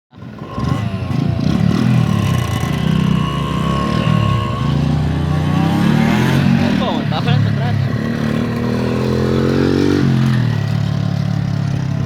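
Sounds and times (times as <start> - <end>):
small motorcycle engine revving: 0.1 - 12.0.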